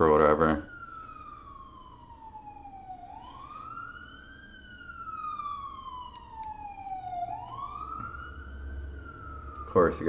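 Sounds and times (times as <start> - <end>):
siren wailing: 0.0 - 10.0.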